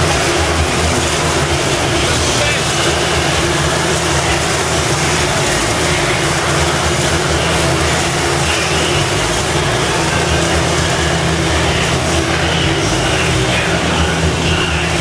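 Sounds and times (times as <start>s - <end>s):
motorcycle engines roaring: 0.0s - 15.0s.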